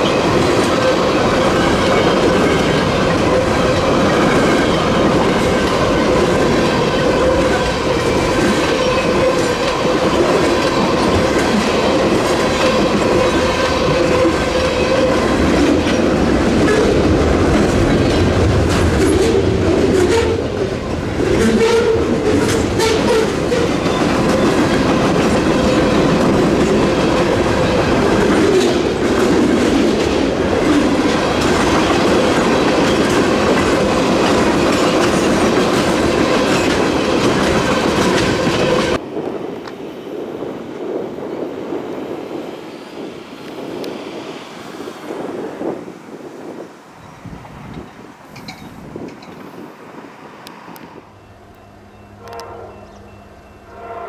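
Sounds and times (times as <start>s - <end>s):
train wheels running on rails: 0.0s - 54.0s.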